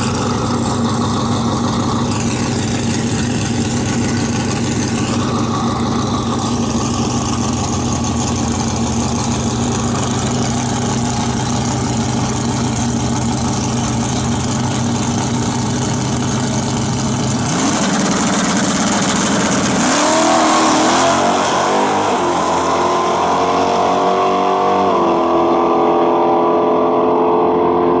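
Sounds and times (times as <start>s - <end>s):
drag car engine revving: 0.0s - 28.0s.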